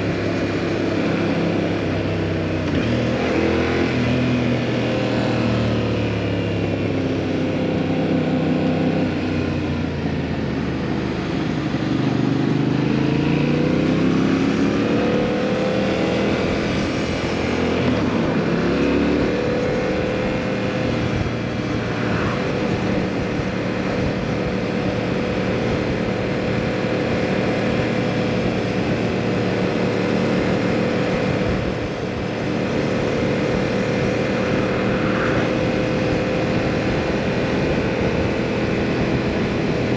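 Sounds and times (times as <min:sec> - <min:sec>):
motorcycle engine accelerating and cruising: 0:00.0 - 0:39.9.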